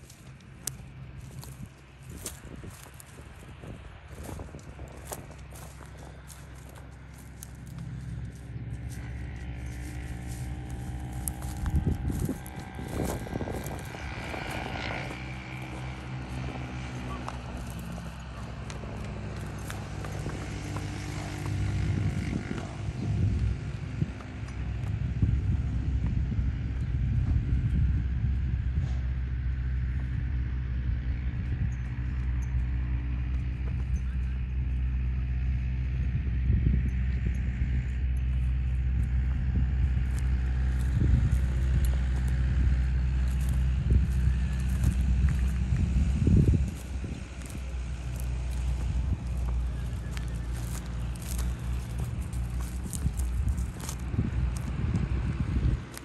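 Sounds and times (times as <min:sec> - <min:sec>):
horse hoofbeats on soft ground: 0:00.0 - 0:27.9, 0:28.5 - 0:36.0, 0:36.6 - 0:56.0
steady low rumble: 0:00.0 - 0:56.0
wind buffeting microphone: 0:00.0 - 0:56.0.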